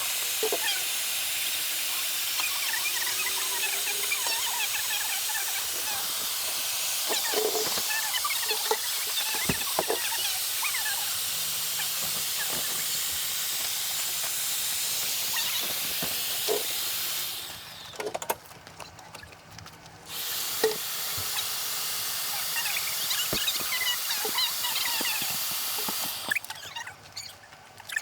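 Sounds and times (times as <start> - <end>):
air pump hissing: 0.0 - 18.1, 20.1 - 26.8.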